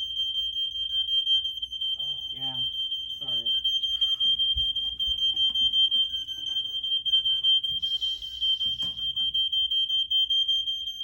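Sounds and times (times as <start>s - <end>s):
smoke alarm high-pitched tone: 0.0s - 11.0s.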